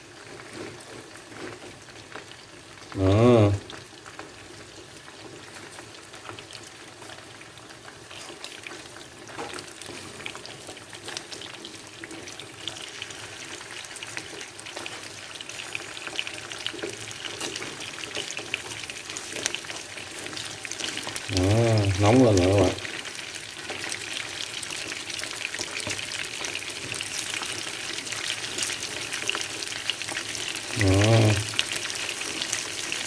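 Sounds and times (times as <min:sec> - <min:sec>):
food sizzling in hot oil: 0:03.7 - 0:33.0.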